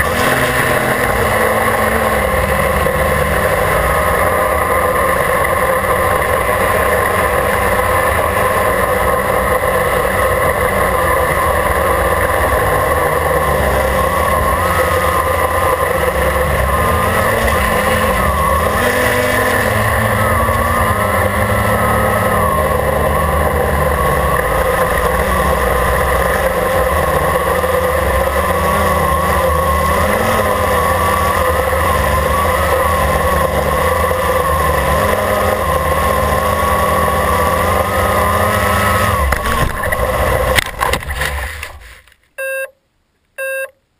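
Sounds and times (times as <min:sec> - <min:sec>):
drone motors buzzing: 0:00.0 - 0:41.8.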